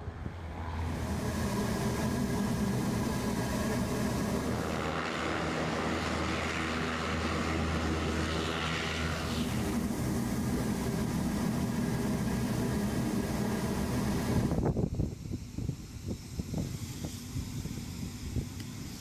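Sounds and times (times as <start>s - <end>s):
hovercraft engine drone: 0.0s - 19.0s
rushing air and spray: 0.1s - 19.0s.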